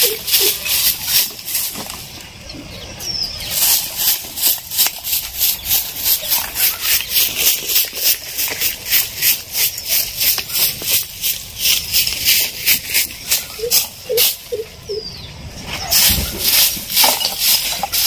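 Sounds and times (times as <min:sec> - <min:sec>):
broom sweeping: 0:00.0 - 0:02.2, 0:03.3 - 0:14.7, 0:15.6 - 0:18.0.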